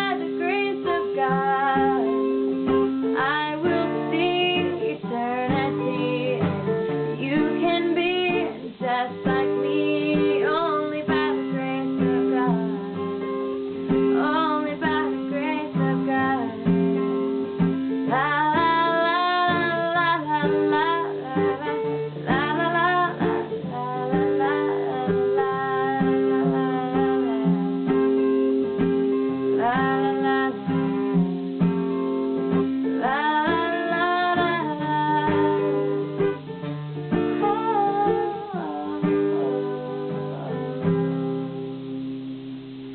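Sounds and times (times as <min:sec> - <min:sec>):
woman singing: 0:00.0 - 0:36.5, 0:37.1 - 0:41.6
acoustic guitar strumming: 0:00.0 - 0:42.9.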